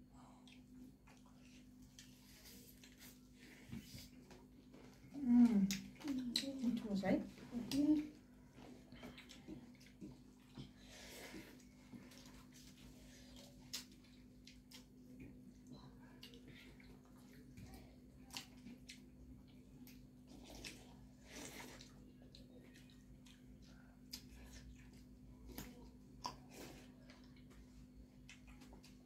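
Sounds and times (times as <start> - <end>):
faint steady hum: 0.0 - 29.0
chewing: 0.3 - 29.0.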